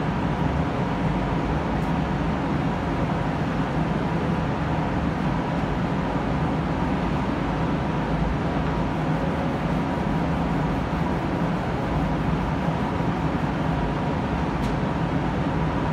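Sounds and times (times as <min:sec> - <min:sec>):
ventilation fans running: 0:00.0 - 0:15.9.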